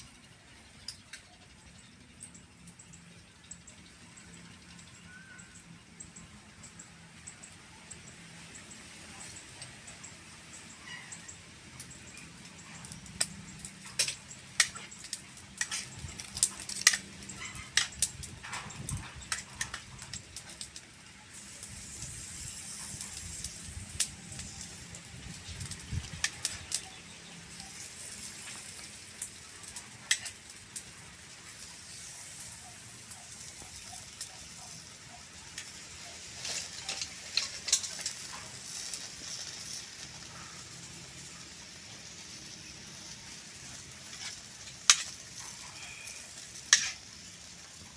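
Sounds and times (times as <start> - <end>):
shellfish sizzling on grill: 0.0 - 47.9.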